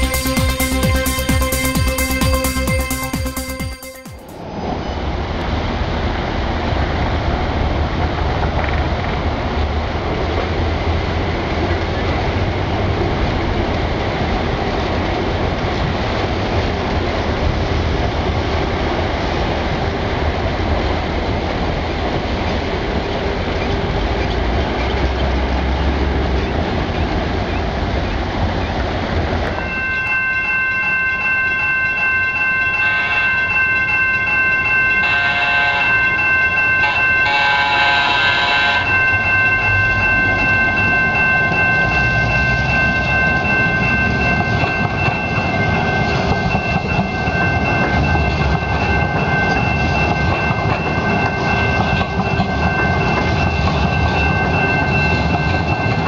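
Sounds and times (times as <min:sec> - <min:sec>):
high whine of passing trolley: 0:00.0 - 0:56.0
light-rail cars rumbling on track: 0:00.0 - 0:56.0.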